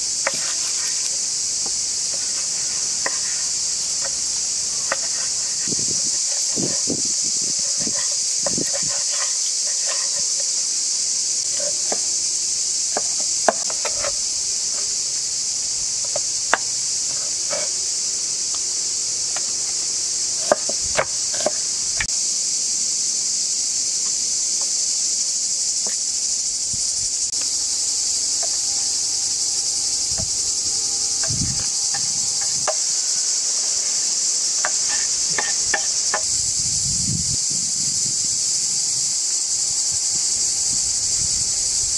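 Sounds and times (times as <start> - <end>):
insect chorus: 0.0 - 41.9.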